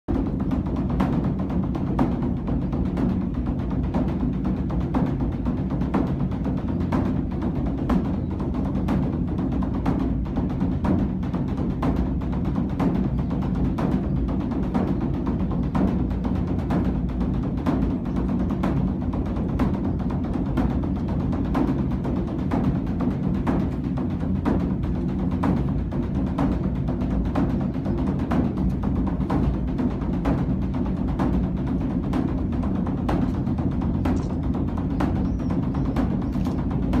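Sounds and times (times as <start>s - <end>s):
large temple drum beaten: 0.1s - 37.0s.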